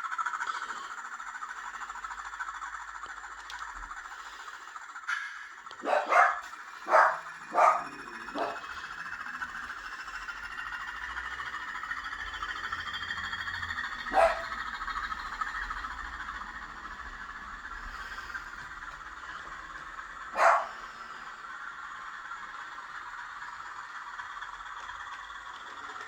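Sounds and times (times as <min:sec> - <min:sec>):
model diesel engine drone: 0:00.0 - 0:26.0.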